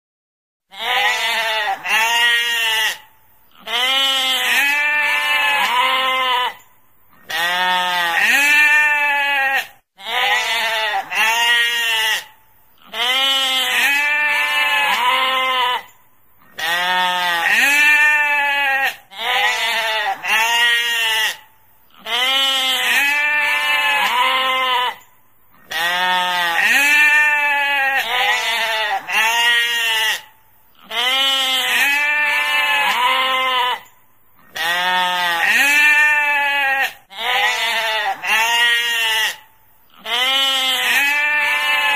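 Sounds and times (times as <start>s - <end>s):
sheep bleating: 0.7s - 6.6s, 7.2s - 41.9s.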